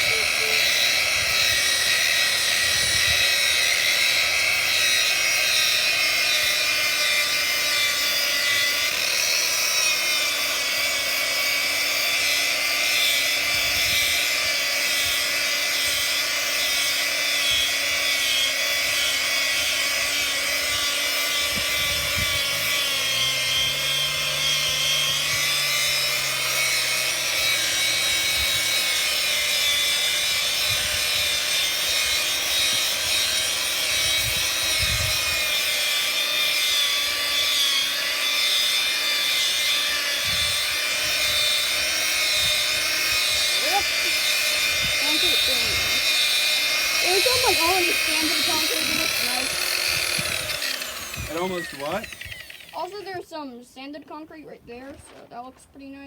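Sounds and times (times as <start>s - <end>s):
power sander grinding concrete: 0.0s - 56.0s.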